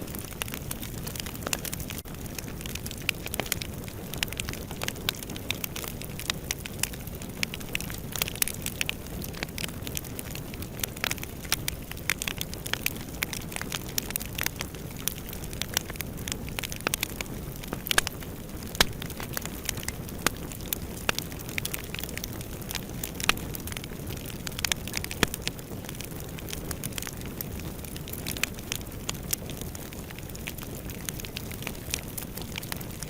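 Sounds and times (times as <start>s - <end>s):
fire crackling in fireplace: 0.0s - 33.0s.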